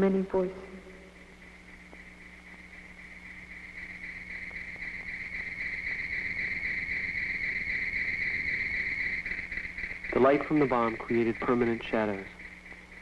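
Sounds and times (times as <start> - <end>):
faint low hum: 0.0 - 13.0
high insect trill: 0.0 - 13.0.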